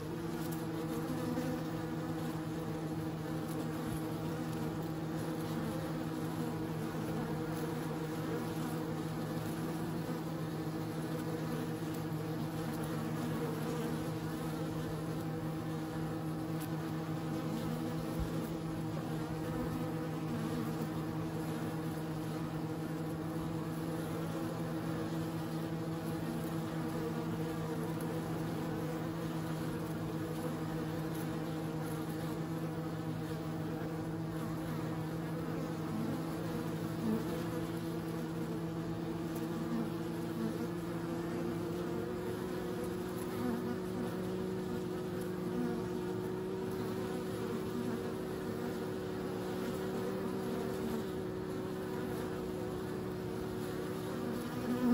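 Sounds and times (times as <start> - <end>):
honeybees buzzing: 0.0 - 54.9.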